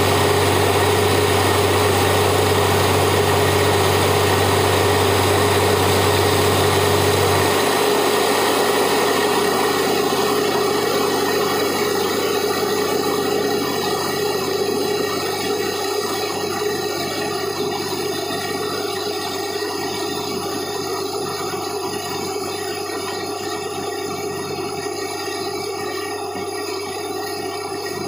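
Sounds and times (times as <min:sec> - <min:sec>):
drilling rig running: 0:00.0 - 0:28.0.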